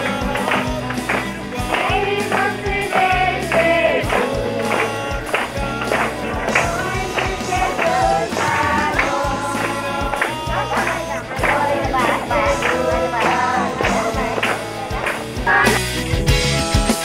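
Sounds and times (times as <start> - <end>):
children and women singing: 0.0 - 15.7
hand clapping on a beat: 0.0 - 17.0
strummed acoustic guitar: 0.0 - 17.0.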